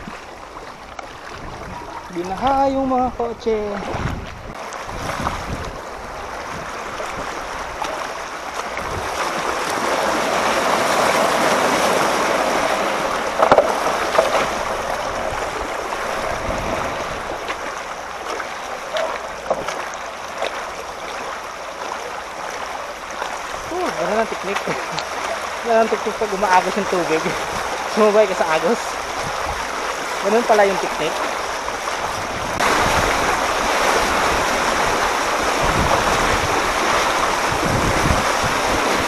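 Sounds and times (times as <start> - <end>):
floodwater rushing and sloshing: 0.0 - 39.0.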